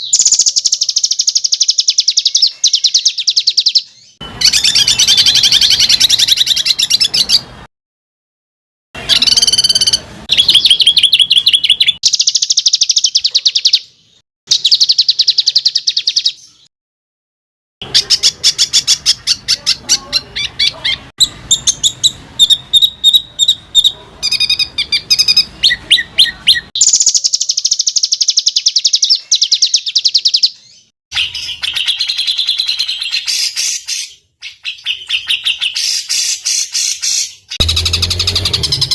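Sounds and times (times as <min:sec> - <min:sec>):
songbirds trilling: 0:00.0 - 0:07.5, 0:09.0 - 0:16.7, 0:17.8 - 0:38.9.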